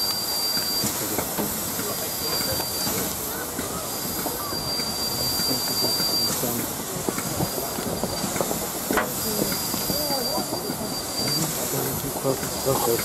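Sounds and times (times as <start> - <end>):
steam hissing: 0.0 - 13.0.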